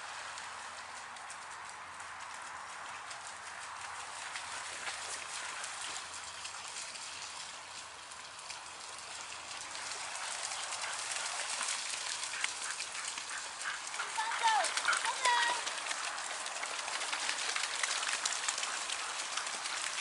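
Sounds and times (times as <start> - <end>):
splashes in puddles: 0.0 - 20.0.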